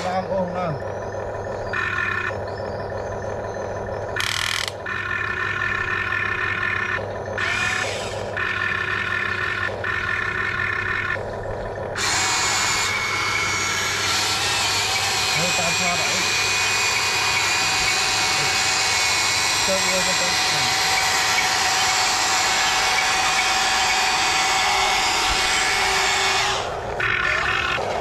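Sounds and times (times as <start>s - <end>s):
electric motors whining: 0.0s - 28.0s
steady low hum: 0.0s - 28.0s.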